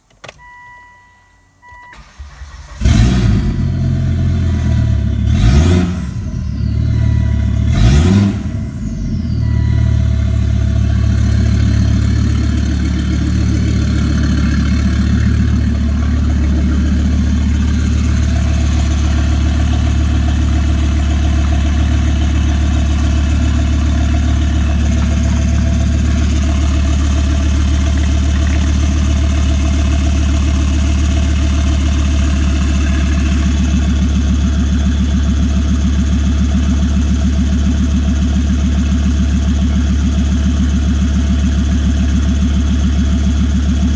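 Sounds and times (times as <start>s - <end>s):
car engine starting and revving: 1.9s - 43.9s.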